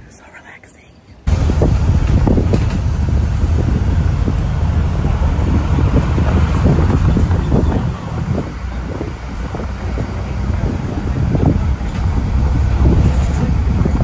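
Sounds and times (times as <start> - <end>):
wind buffeting microphone: 1.3 - 14.0.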